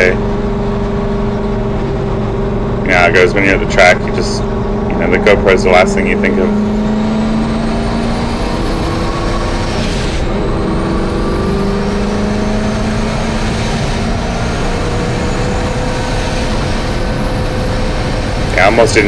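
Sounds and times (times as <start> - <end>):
turbocharged race truck engine: 0.0 - 19.0.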